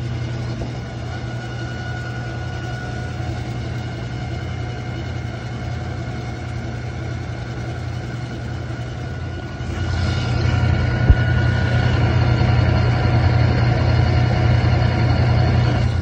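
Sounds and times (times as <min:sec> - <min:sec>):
faint high whine: 0:00.0 - 0:16.0
washing machine humming: 0:00.0 - 0:16.0.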